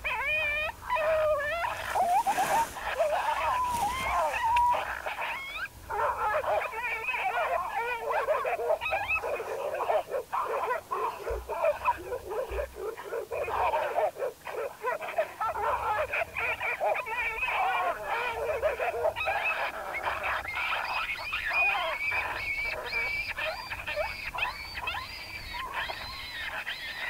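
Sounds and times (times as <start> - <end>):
coyote pup yips and whimpers: 0.0 - 27.0.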